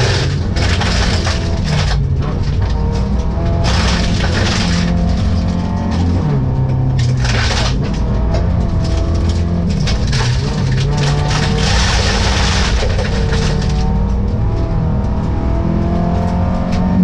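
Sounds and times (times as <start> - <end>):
gravel clattering against underbody: 0.0 - 14.4
rally car engine revving: 0.0 - 17.0.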